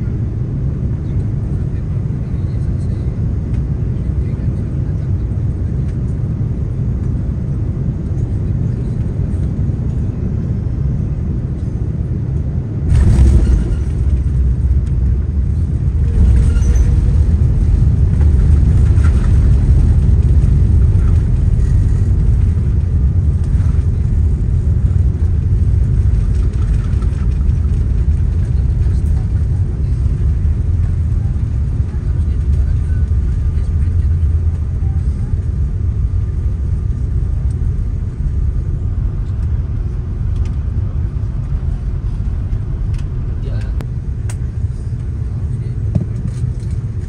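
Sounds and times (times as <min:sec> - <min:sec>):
engine and airflow rumble: 0:00.0 - 0:47.0
reverse thrust and braking rumble: 0:06.8 - 0:47.0.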